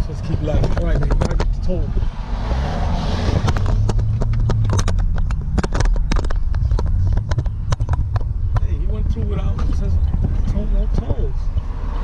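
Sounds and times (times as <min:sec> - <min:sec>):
car engine drone inside cabin: 0:00.0 - 0:12.0
sharp clicks and knocks: 0:00.3 - 0:01.8, 0:03.3 - 0:11.8.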